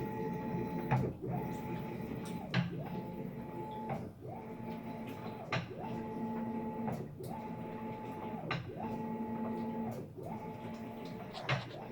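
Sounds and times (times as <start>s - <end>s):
washing machine motor whine: 0.0s - 11.9s.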